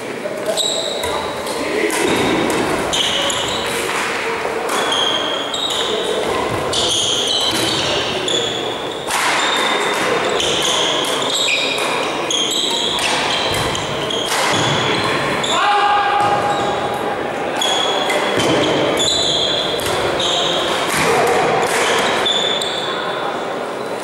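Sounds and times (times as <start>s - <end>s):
voices in background: 0.0s - 24.0s
sports shoes squeaking on floor: 0.4s - 4.0s, 4.7s - 17.0s, 17.6s - 20.8s, 21.8s - 23.2s.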